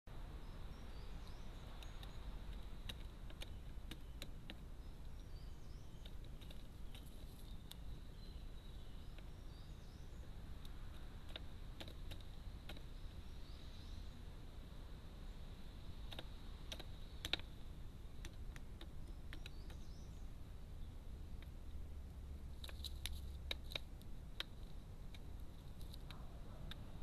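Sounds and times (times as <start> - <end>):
beak pecking at tub: 0.1 - 14.1, 14.8 - 27.0
songbirds chirping: 0.1 - 27.0.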